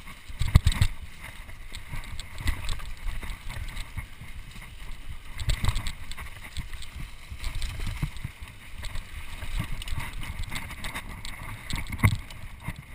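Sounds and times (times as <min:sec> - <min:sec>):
bike clicking and rattling: 0:00.0 - 0:12.9
bike tyres rolling over dirt: 0:00.0 - 0:12.9
wind rumbling on microphone: 0:00.0 - 0:12.9.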